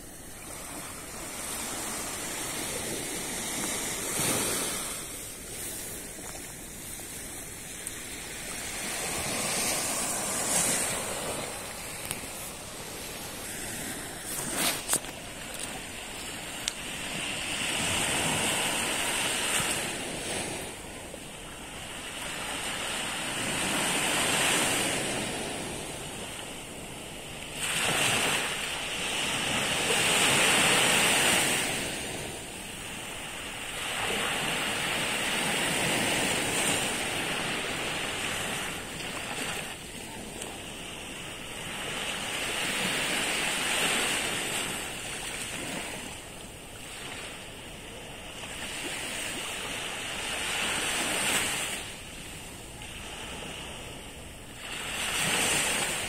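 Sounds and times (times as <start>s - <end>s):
small waves breaking on sand: 0.0s - 56.0s.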